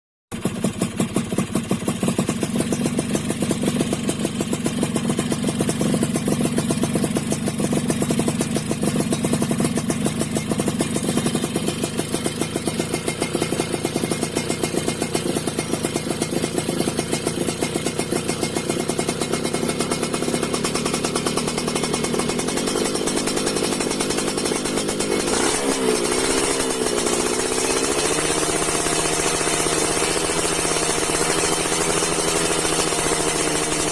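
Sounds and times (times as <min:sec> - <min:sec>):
moped engine idling and revving: 0:00.3 - 0:33.9.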